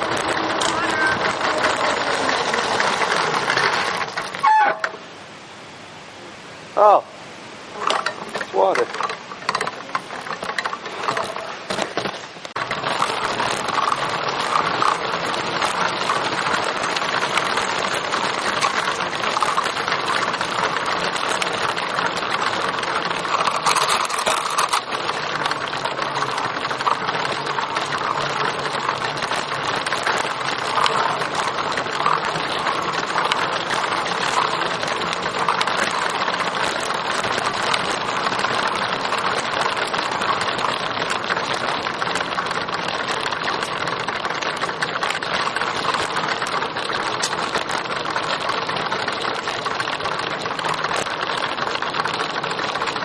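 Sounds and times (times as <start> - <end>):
tyres rolling through water: 0.0 - 53.0.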